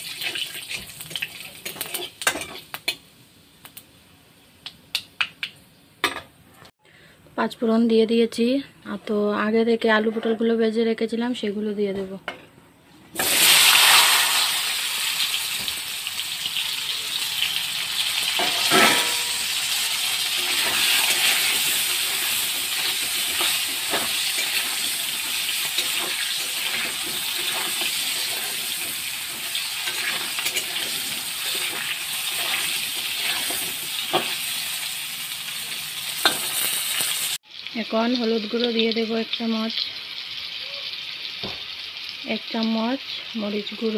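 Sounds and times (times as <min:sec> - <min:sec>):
vegetables sizzling in oil: 0:00.0 - 0:04.6, 0:13.2 - 0:43.9.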